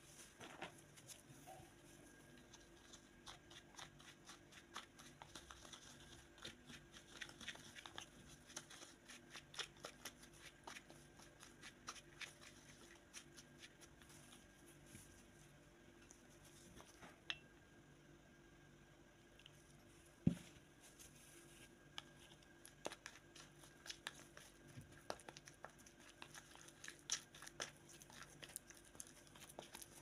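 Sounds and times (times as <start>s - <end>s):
spoon stirring thick paste: 0.0s - 17.6s, 19.4s - 30.0s.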